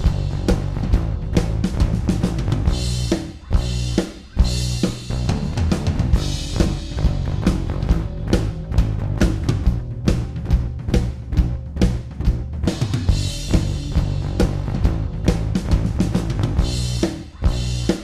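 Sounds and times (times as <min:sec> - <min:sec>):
drum and bass music: 0:00.0 - 0:18.0.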